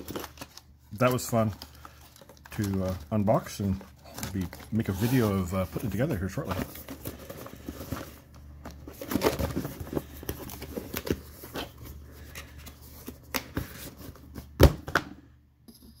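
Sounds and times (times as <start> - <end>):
cardboard rustling: 0.0 - 14.6.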